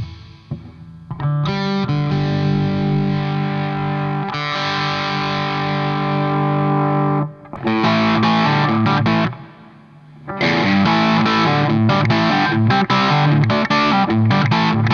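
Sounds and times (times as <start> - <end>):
distorted electric guitar chords: 0.0 - 14.9.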